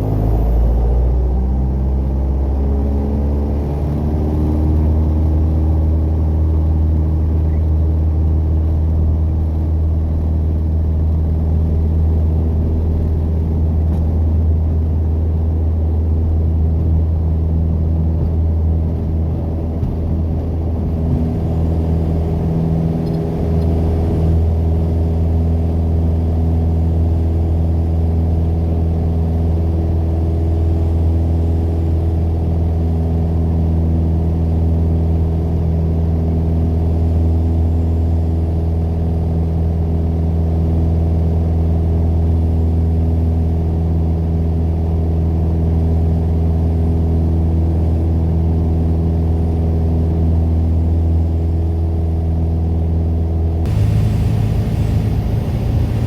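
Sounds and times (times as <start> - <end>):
light aircraft engine running: 0.0 - 56.0.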